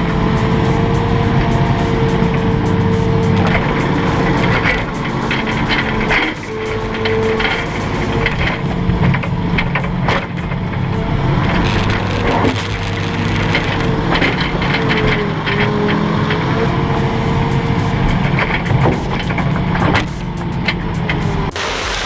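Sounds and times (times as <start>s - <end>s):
machinery whine: 0.0s - 22.0s.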